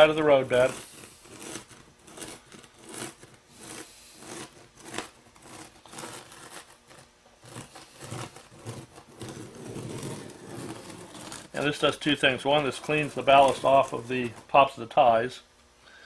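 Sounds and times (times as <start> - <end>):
finger scraping gravel: 0.0 - 14.5.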